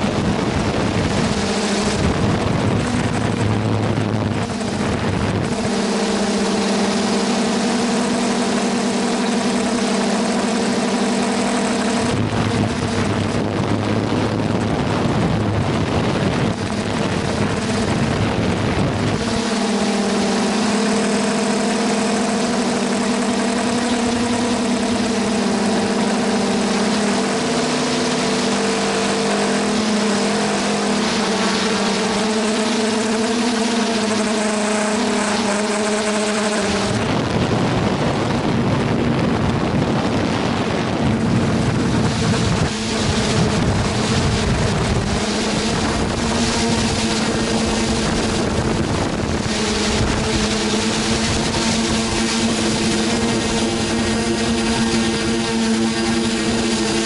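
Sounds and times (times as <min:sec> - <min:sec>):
drone motors buzzing: 0:00.0 - 0:57.0
wind rushing over microphone: 0:00.0 - 0:57.0.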